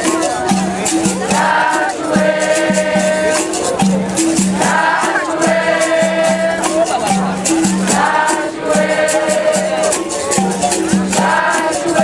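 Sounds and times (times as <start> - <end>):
voices singing in chorus: 0.0 - 3.8, 4.6 - 12.0
percussion ticking: 0.0 - 12.0
shakers rattling: 0.0 - 12.0.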